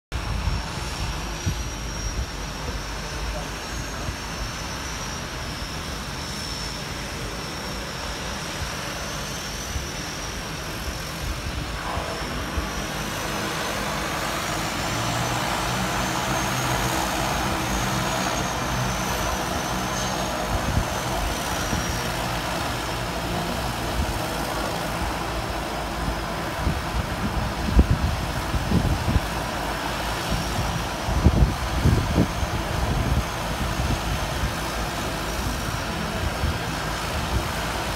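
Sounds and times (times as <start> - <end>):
distant turboprop engine drone: 0.1 - 37.9
wavering high whine: 0.2 - 37.9.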